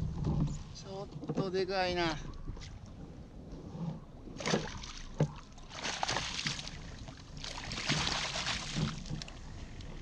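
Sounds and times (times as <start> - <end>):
water sloshing against kayak: 0.0 - 10.0.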